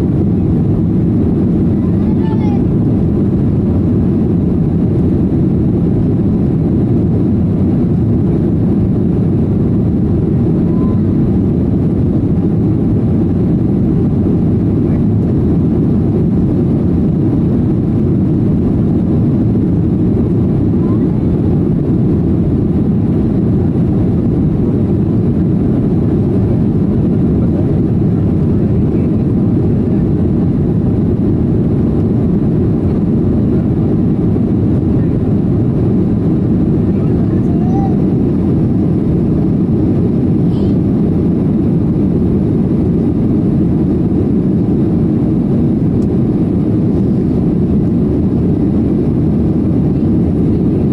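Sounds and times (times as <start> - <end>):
jet cabin engine rumble: 0.0 - 50.9.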